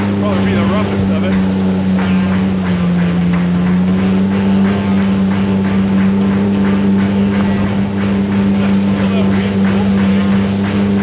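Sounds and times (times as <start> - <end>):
outboard motor humming: 0.0 - 11.0
quick regular slaps: 0.0 - 11.0.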